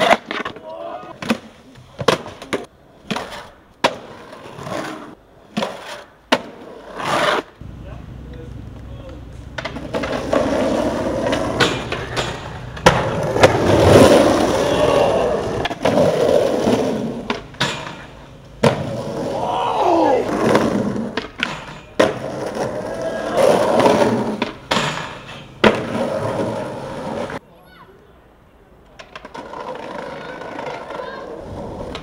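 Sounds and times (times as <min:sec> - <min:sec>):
skateboard popping and landing clacks: 0:00.0 - 0:07.6, 0:08.7 - 0:14.7, 0:15.3 - 0:19.3, 0:20.2 - 0:27.4, 0:28.8 - 0:32.0
skateboard wheels rolling on concrete: 0:00.0 - 0:32.0.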